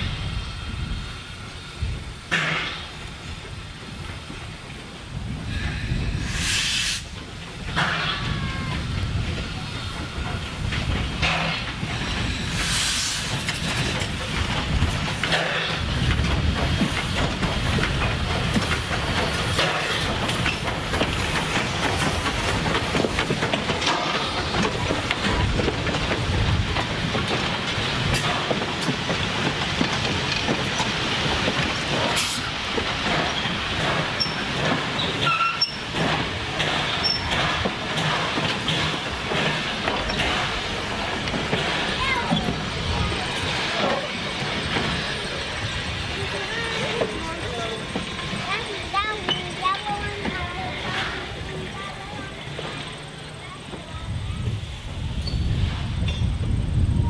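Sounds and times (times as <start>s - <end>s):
steam hissing: 0.0s - 53.4s
steam locomotive passing: 0.0s - 57.0s
wheels clicking over rail joints: 7.1s - 12.6s, 13.3s - 57.0s.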